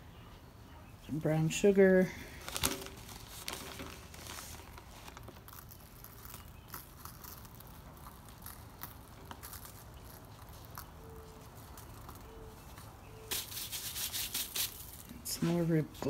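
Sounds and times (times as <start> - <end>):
sugar sprinkled onto foil: 2.2 - 15.9.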